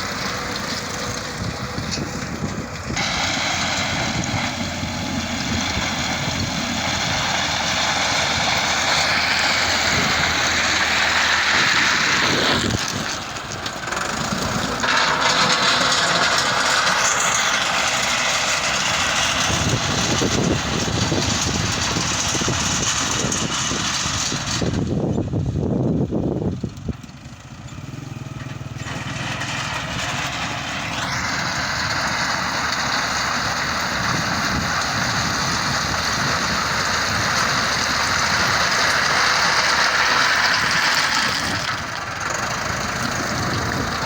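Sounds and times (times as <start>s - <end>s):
heavy diesel machinery running: 0.0s - 44.0s.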